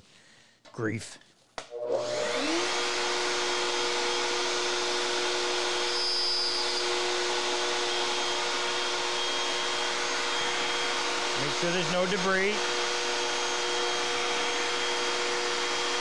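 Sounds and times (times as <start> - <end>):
electric router motor whining: 1.7 - 16.0.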